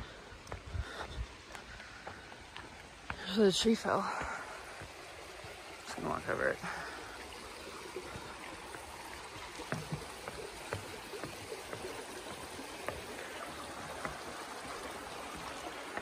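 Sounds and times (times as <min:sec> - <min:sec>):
footsteps on wooden boards: 0:00.0 - 0:05.9, 0:06.6 - 0:16.0
water rushing over rocks: 0:00.0 - 0:16.0.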